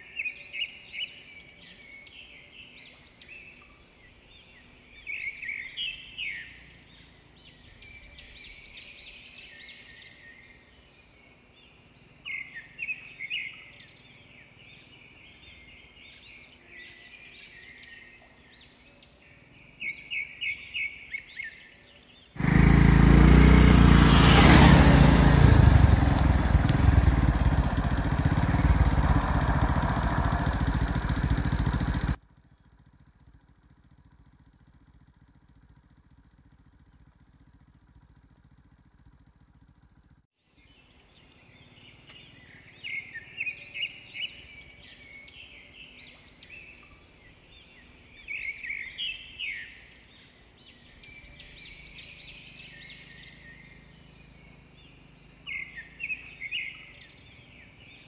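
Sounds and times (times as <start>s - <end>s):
small birds chirping: 0.0s - 32.2s, 33.7s - 58.0s.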